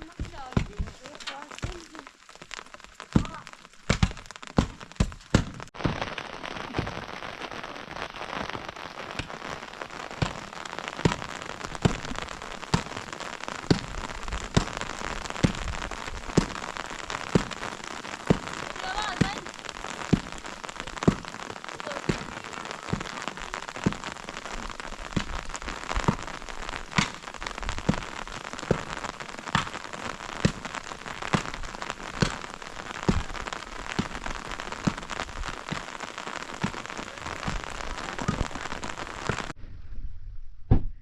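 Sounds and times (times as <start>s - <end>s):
heavy rain falling: 0.0s - 39.6s.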